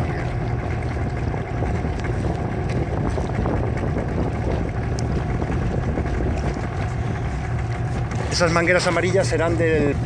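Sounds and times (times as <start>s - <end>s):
boat motor running: 0.0s - 10.0s
water wash: 0.0s - 10.0s
wind on microphone: 0.0s - 10.0s.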